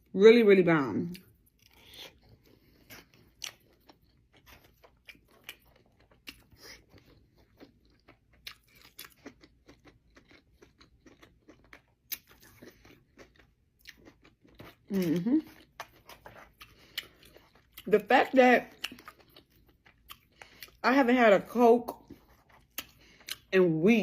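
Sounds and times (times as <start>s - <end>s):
person chewing food: 1.1s - 18.0s, 18.7s - 20.8s, 21.9s - 23.5s.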